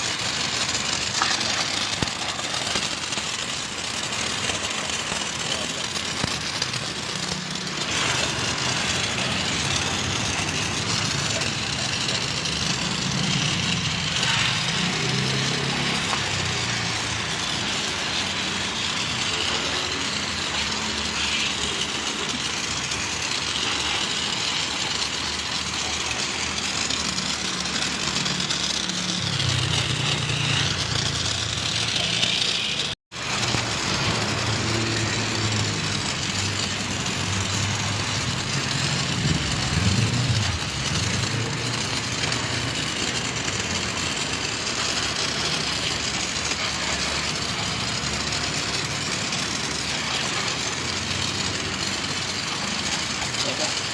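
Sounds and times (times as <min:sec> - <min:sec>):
motor running: 0:00.0 - 0:53.9.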